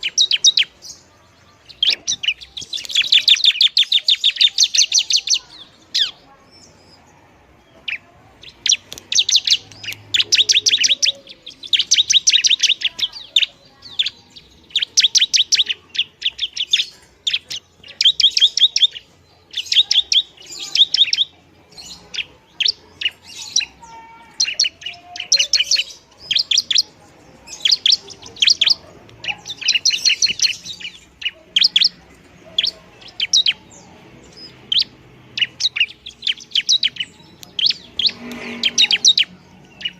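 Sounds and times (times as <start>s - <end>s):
bird singing sharp high chips: 0.0s - 7.0s, 7.8s - 39.9s.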